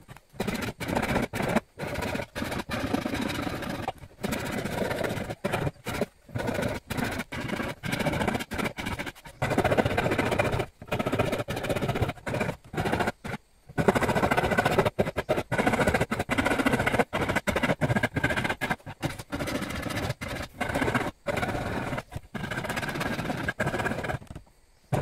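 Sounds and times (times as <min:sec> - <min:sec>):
hand tool scraping wood: 0:00.0 - 0:25.0.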